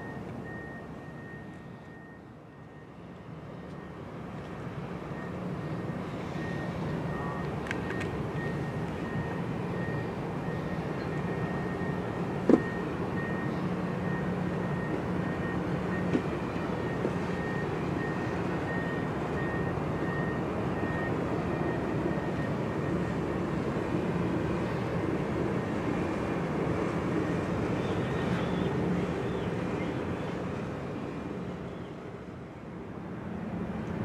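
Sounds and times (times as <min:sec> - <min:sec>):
ship engines humming: 0:00.0 - 0:34.0
waterfront noise: 0:00.0 - 0:34.0.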